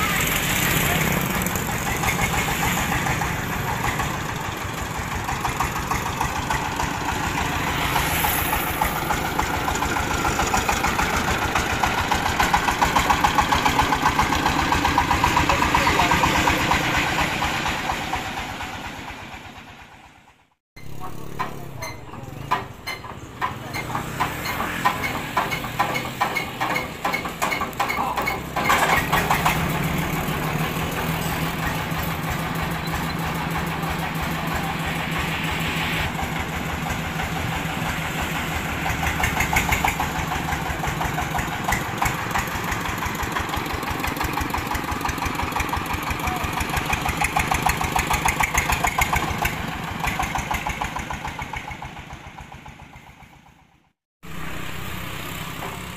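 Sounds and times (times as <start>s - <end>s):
diesel engine chugging: 0.0s - 55.9s.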